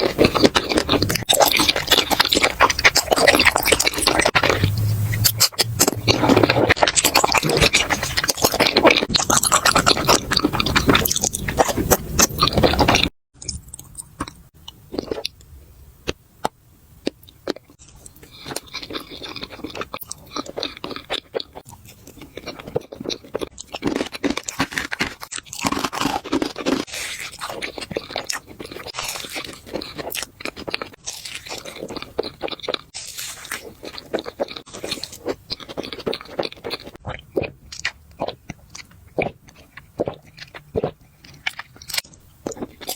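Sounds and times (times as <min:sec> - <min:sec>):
loud crunching while eating: 0:00.0 - 0:15.4, 0:17.0 - 0:42.9
chewing with crisp crunches: 0:00.0 - 0:42.9.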